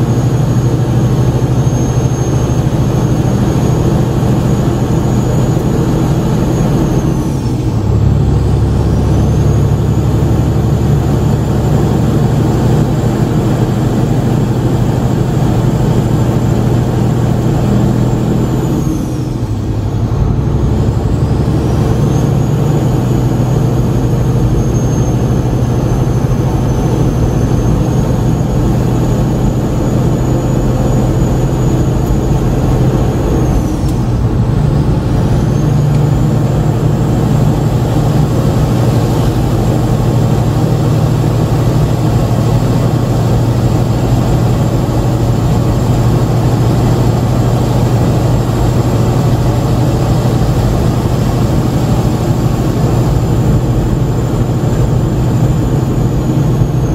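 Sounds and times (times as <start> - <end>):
high whine: 0.0 - 56.9
truck diesel engine pulling: 0.0 - 56.9.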